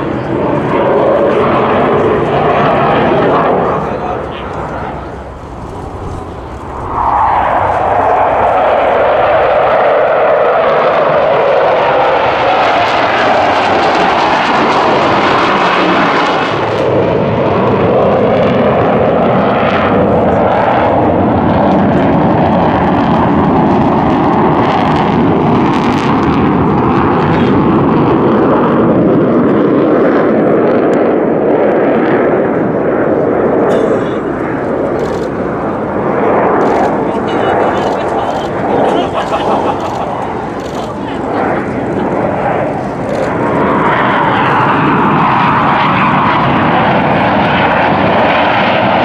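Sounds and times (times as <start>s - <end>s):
jet engines roaring overhead: 0.0s - 49.0s.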